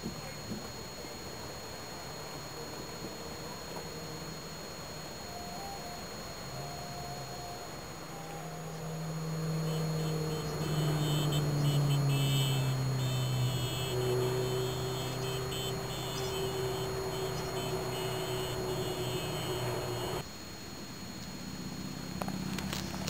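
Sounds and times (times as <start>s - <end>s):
vehicle engine running: 0.0s - 20.2s.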